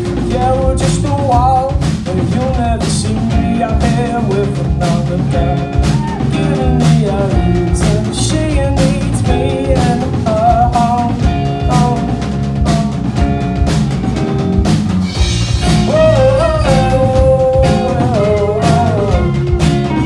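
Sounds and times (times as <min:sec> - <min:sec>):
person singing: 0:00.0 - 0:13.3, 0:15.6 - 0:20.0
rock band playing live: 0:00.0 - 0:20.0.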